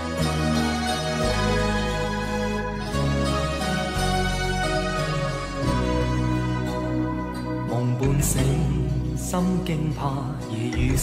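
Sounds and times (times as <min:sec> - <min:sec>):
slow pop song intro: 0:00.0 - 0:11.0.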